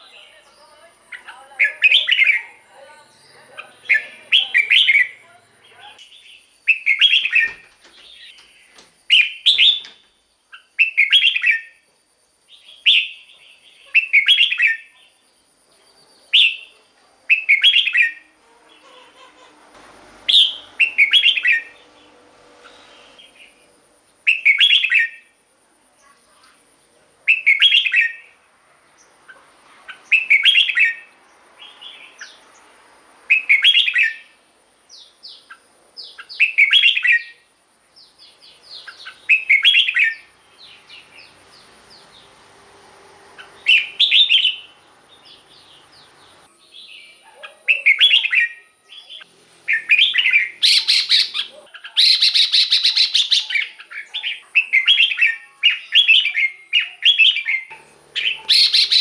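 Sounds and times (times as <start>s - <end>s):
bird singing warbled phrases: 0.0s - 11.8s, 12.4s - 42.5s, 43.3s - 59.0s.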